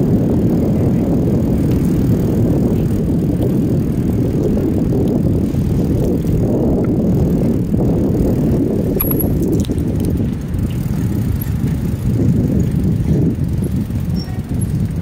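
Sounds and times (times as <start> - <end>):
bicycle tyres on pavement: 0.0 - 15.0
wind rumbling over microphone: 0.0 - 15.0.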